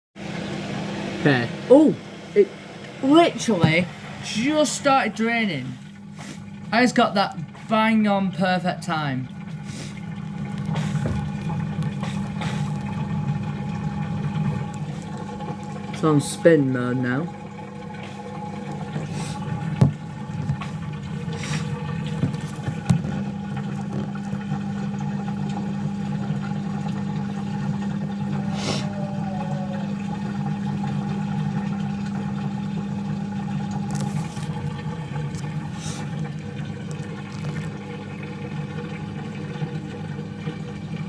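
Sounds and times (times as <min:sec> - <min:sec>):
washing machine spinning: 0:00.2 - 0:41.0.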